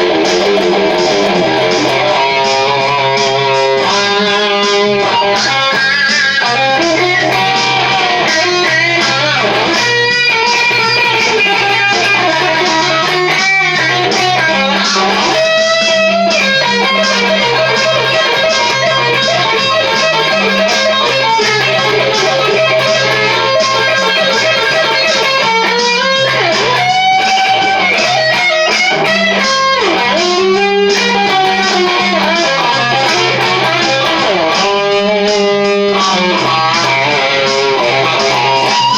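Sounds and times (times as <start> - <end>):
bass notes: 0.0 - 38.9
drums: 0.0 - 38.9
electric guitar solo: 0.0 - 38.9.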